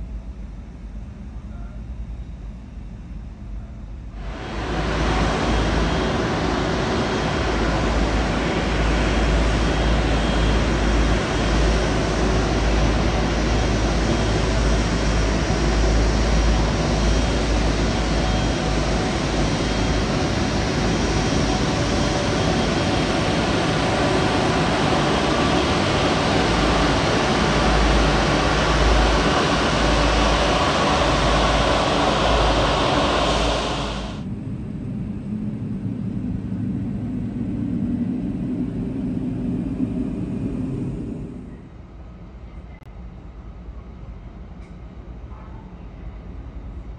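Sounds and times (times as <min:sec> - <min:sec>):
low jet engine hum: 0:00.0 - 0:46.9
jet engines rushing: 0:04.1 - 0:42.0.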